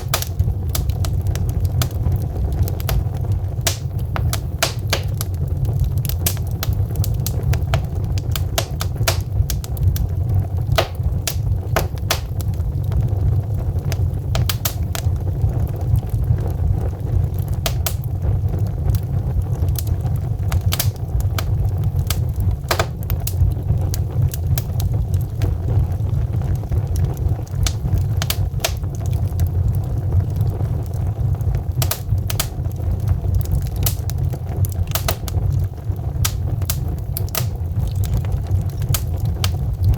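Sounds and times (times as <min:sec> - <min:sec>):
logs crackling and popping: 0:00.0 - 0:39.9
low rumble of flame: 0:00.0 - 0:39.9.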